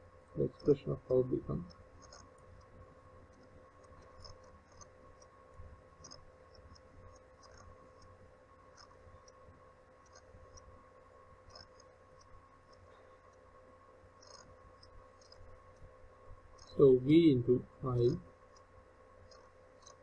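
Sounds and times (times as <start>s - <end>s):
steady electrical hum: 0.0s - 20.0s
faint ticks: 0.5s - 16.8s, 18.1s - 20.0s.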